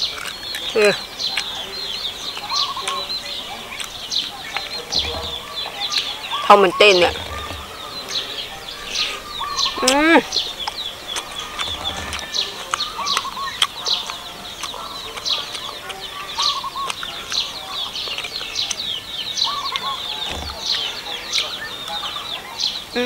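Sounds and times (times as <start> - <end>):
birds chirping and trilling: 0.0 - 23.0
chickens clucking: 0.0 - 23.0.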